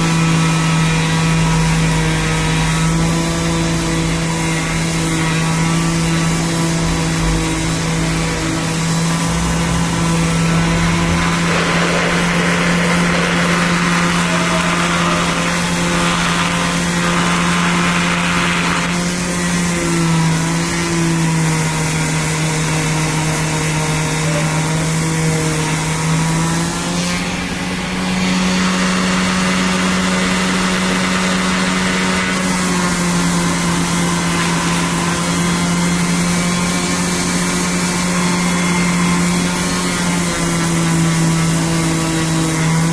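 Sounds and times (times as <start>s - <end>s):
electric sander motor hum: 0.0s - 42.9s.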